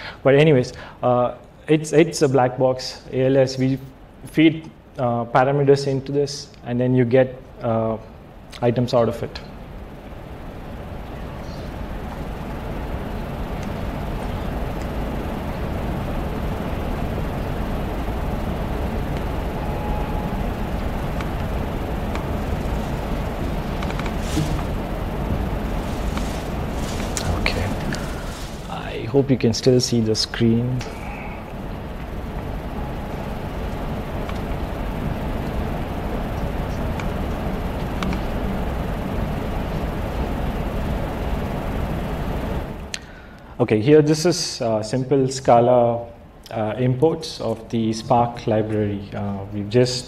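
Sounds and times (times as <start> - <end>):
low rumbling background noise: 0.0 - 50.0.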